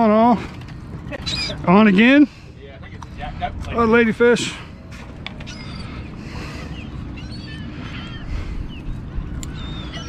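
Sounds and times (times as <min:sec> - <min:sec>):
birds chirping: 0:00.7 - 0:10.0.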